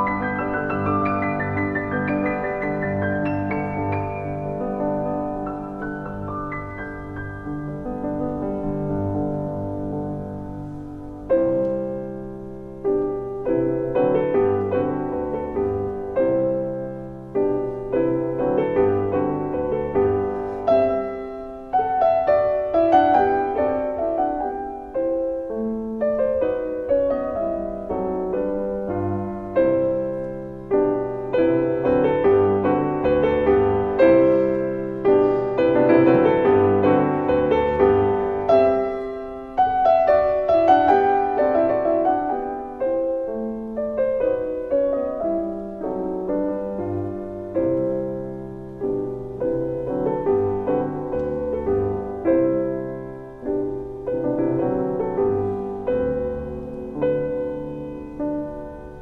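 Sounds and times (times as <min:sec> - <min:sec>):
piano music: 0:00.0 - 0:59.0.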